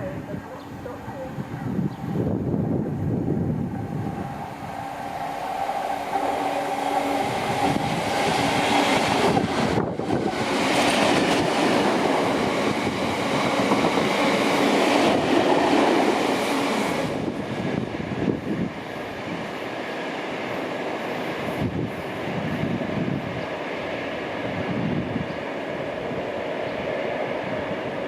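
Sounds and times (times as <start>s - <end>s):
train passing: 0.0s - 28.0s.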